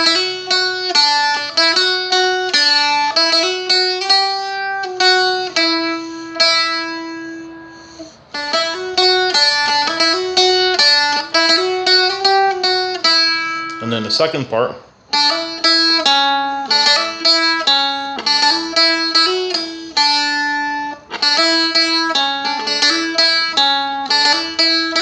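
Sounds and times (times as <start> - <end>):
strumstick picking a jig melody: 0.0 - 14.1, 15.0 - 25.0.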